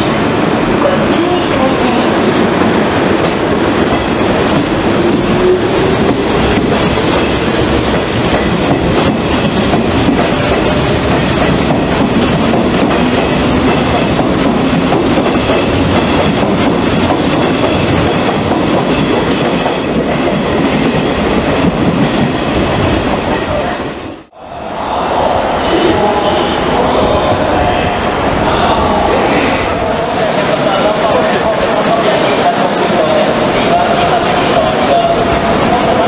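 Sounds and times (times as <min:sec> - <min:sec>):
train wheel and rail noise: 0:00.0 - 0:36.0.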